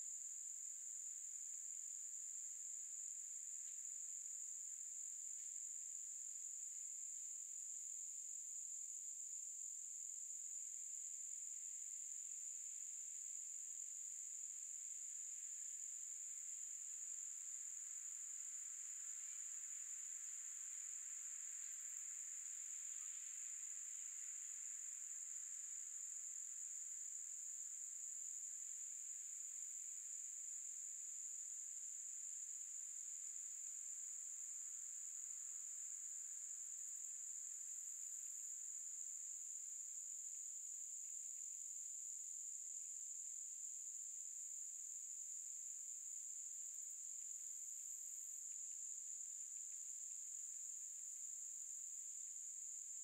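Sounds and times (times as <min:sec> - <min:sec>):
insects chorus: 0:09.6 - 0:53.0.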